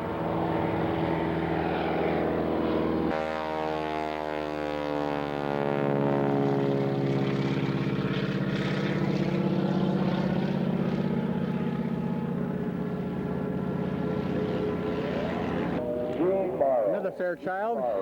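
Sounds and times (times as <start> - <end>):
propeller airplane engine running: 0.0 - 18.0.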